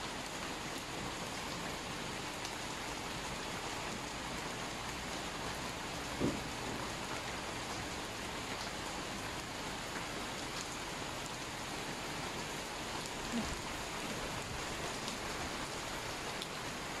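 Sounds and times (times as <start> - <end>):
rain on wet paving: 0.0 - 17.0.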